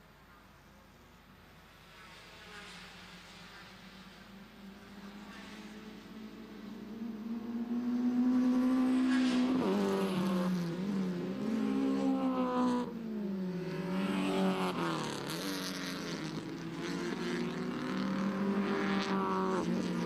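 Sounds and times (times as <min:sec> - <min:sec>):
race car engines revving: 0:01.8 - 0:20.0.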